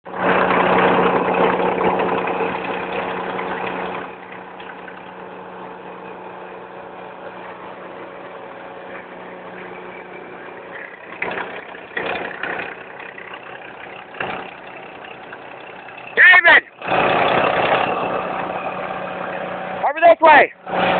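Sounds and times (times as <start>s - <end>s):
truck engine idling: 0.1s - 20.9s.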